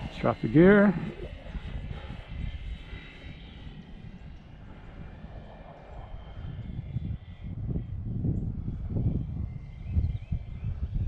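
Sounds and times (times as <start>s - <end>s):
model plane motor whine: 0.0s - 11.0s
wind rumble on microphone: 0.0s - 11.0s.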